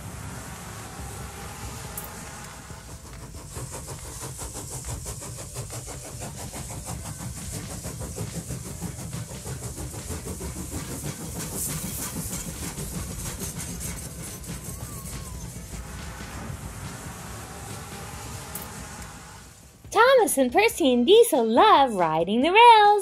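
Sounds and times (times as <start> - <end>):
toy train motors whirring: 0.0 - 19.8
wheels clicking over track: 0.0 - 20.3.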